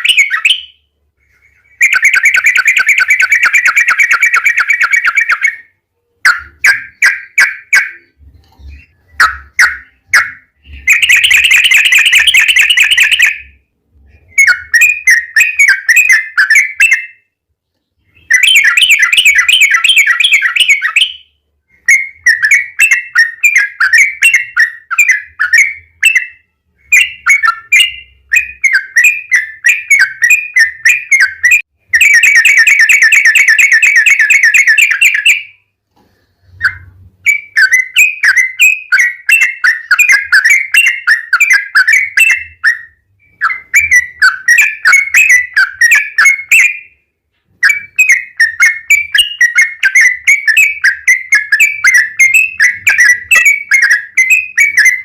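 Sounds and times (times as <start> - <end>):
bird singing with rolling trills: 0.0 - 35.8, 36.4 - 55.0.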